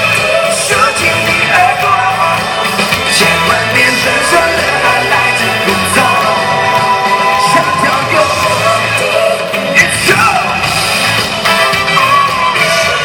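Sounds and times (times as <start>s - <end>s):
person singing: 0.0s - 13.0s
pop-rock band playing: 0.0s - 13.0s.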